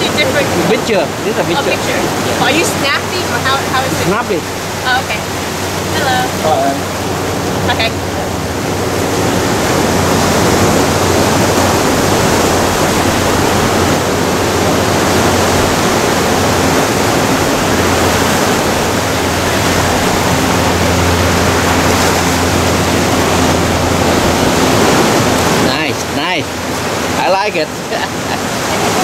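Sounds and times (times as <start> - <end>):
waves breaking on rocks: 0.0 - 29.0.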